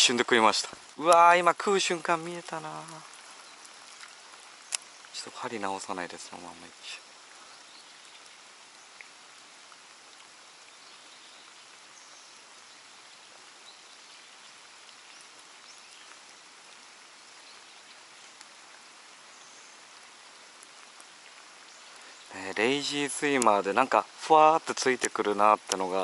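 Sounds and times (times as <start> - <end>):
light rain falling: 0.0 - 26.0.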